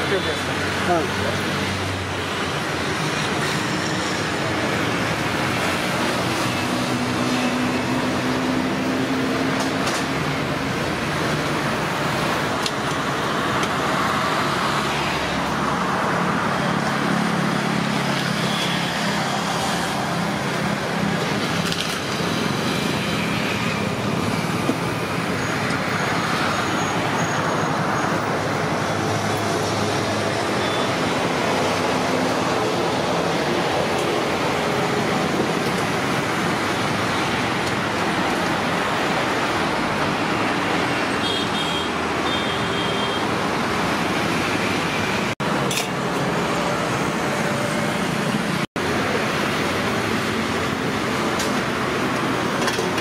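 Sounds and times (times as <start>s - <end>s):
road traffic: 0.0s - 53.0s
vehicles passing: 0.0s - 53.0s.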